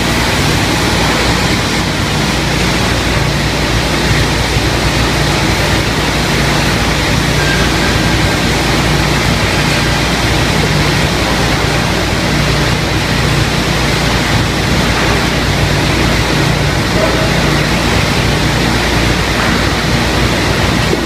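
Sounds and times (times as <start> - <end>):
ripping saw running: 0.0 - 21.0.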